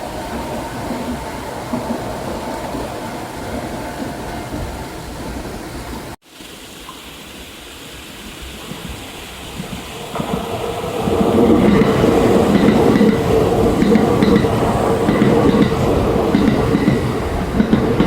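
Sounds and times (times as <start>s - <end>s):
train rail noise: 0.0s - 6.2s, 7.8s - 18.0s
train wheels clacking over rail joints: 0.0s - 6.2s, 8.6s - 18.0s.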